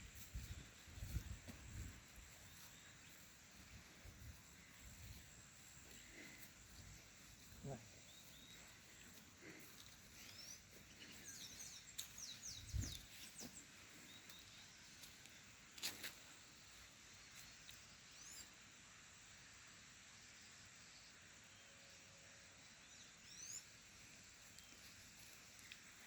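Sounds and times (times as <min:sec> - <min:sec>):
birds chirping faintly: 0:00.0 - 0:19.3, 0:20.0 - 0:26.0.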